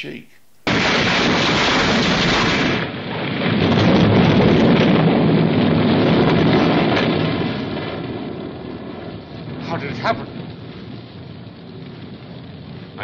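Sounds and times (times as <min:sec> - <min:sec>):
rumbling of burning car wreck: 0:00.6 - 0:13.0.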